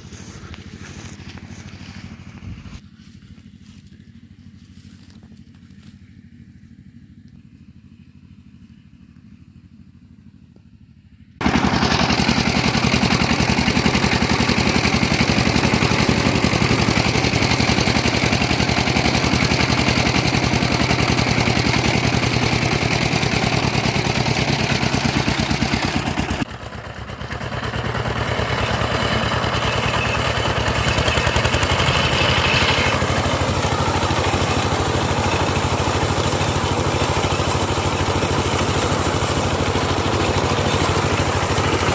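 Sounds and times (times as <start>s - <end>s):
combine engine rattling clatter: 0.0s - 6.5s, 11.4s - 41.9s.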